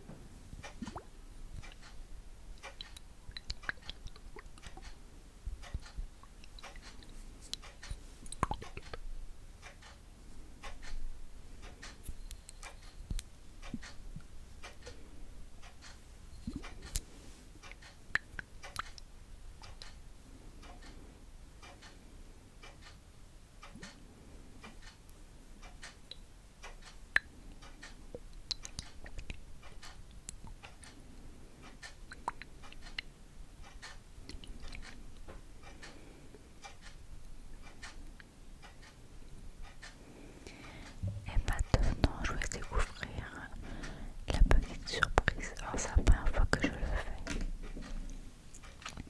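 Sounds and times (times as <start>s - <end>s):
small clicks taps and crackles: 0.1s - 2.0s, 2.6s - 10.0s, 10.6s - 11.0s, 11.6s - 20.0s, 22.6s - 23.0s, 24.6s - 31.0s, 31.6s - 39.0s, 39.6s - 49.0s.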